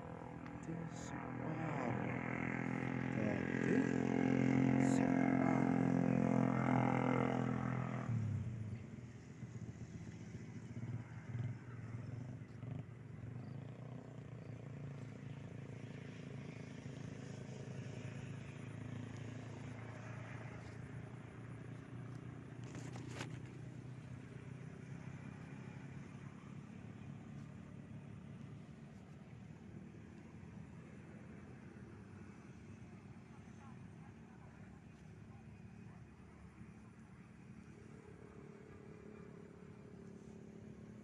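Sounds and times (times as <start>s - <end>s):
low engine hum: 0.0s - 41.0s.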